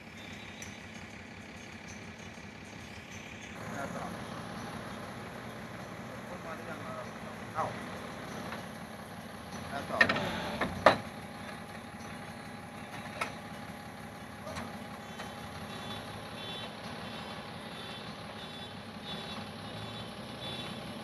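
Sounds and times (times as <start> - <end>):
excavator engine idling: 0.0 - 21.0.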